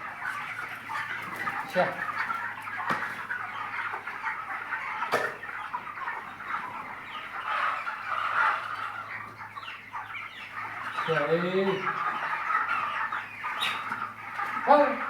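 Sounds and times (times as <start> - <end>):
chickens clucking and cheeping: 0.0 - 15.0.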